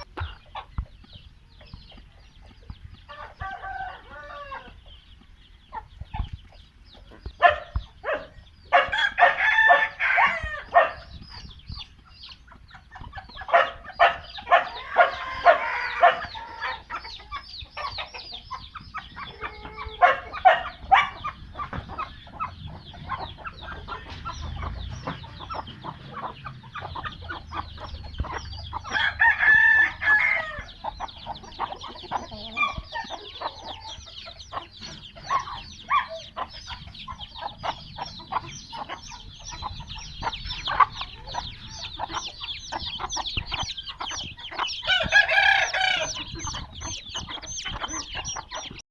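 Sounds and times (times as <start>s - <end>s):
hens clucking: 0.0s - 48.8s
roosters crowing: 3.0s - 5.2s, 7.4s - 11.5s, 13.0s - 48.8s.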